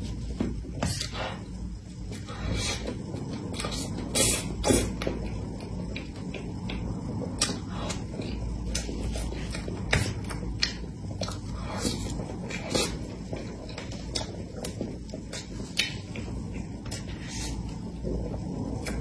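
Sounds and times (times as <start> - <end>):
woman chewing cake: 2.1 - 19.0.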